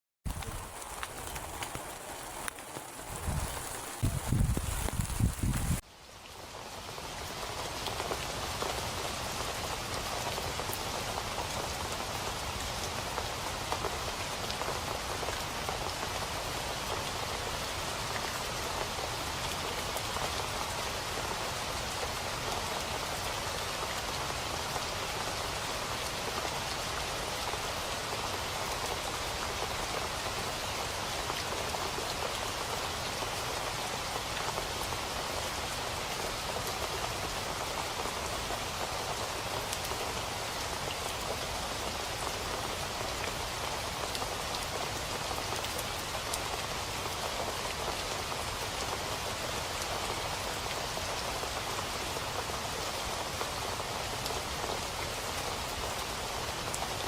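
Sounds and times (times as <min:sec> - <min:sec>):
rain hissing on a surface: 0:00.3 - 0:57.0.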